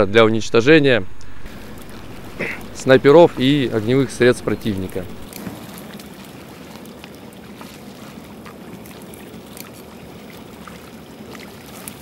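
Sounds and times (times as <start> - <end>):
water splashing and trickling: 1.5 - 12.0.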